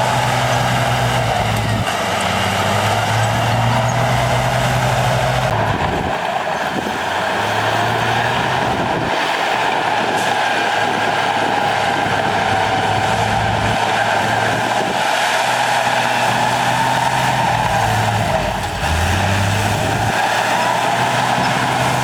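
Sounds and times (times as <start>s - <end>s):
diesel machinery running: 0.0s - 22.0s.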